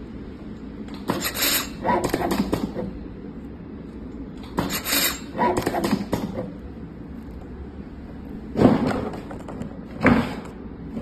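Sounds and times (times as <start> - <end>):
low steady hum: 0.0 - 1.1, 2.5 - 5.4, 6.0 - 11.0.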